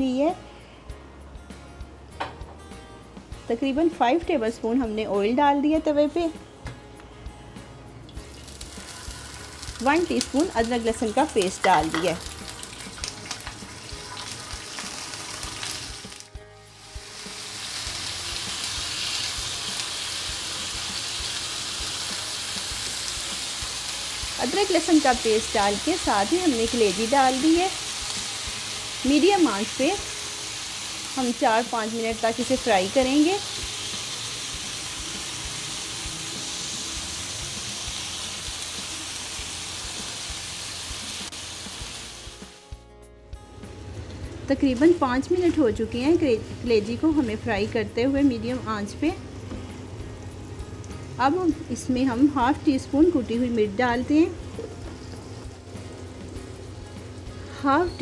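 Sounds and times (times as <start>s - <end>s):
food sizzling in hot oil: 8.1s - 42.8s, 43.6s - 58.0s.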